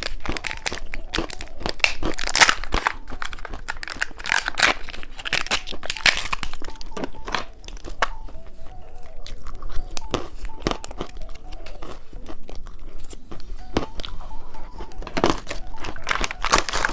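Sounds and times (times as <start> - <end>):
crunchy candy being chewed: 0.0 - 16.9.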